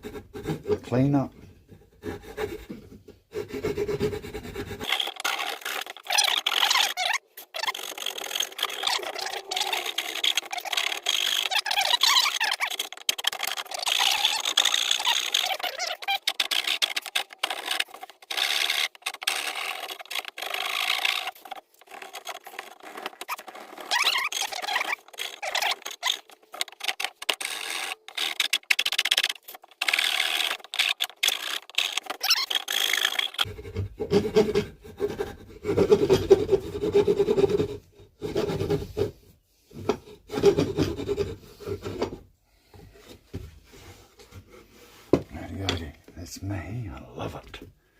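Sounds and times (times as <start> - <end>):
hand file rasping on wood: 0.0 - 42.2.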